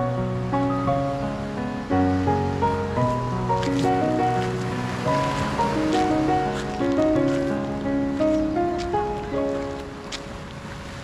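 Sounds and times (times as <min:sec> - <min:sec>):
melody of held notes: 0:00.0 - 0:10.5
steady rushing noise: 0:00.0 - 0:11.0.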